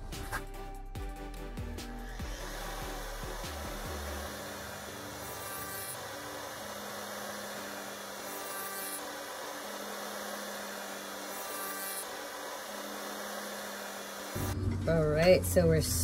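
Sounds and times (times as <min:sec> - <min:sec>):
electric router cutting wood: 0:01.8 - 0:14.6.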